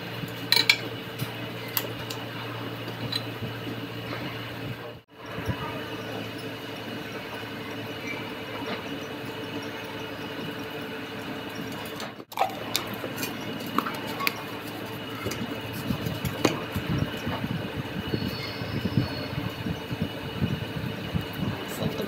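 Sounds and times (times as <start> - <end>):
workshop machinery hum: 0.0 - 22.0.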